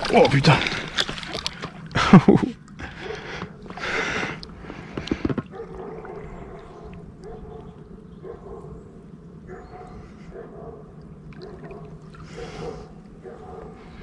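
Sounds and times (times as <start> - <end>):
lapping water: 0.0 - 7.9, 10.2 - 14.0.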